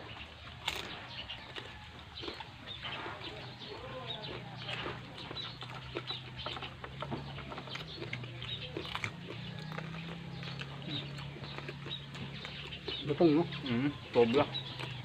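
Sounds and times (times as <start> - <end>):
chewing crispy food: 0.0 - 15.0.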